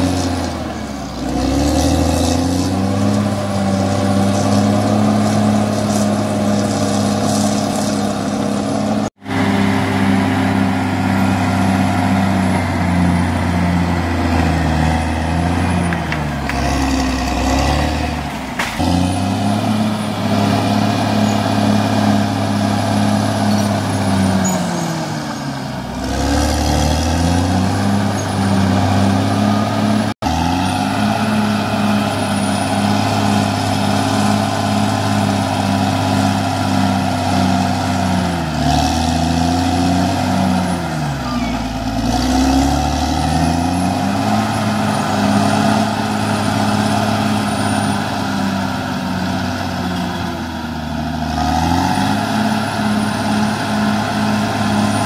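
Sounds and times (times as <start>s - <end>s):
bulldozer diesel engine working hard: 0.0s - 55.0s.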